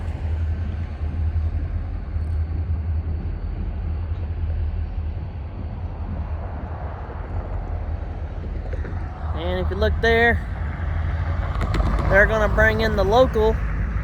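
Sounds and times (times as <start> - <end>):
diesel locomotives rumbling: 0.0 - 14.0.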